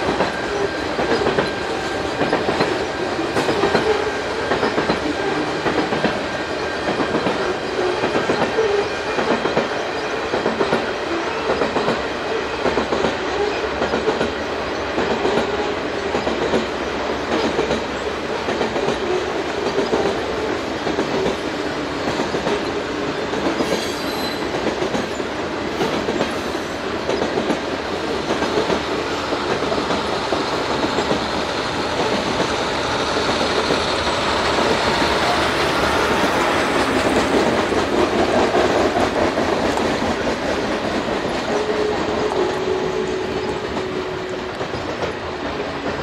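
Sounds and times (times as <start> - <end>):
freight train rumbling past: 0.0 - 46.0
wheels clacking over rail joints: 0.0 - 46.0.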